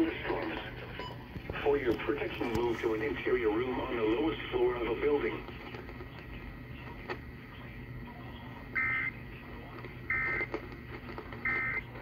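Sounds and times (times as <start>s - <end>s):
low radio hum: 0.0s - 12.0s.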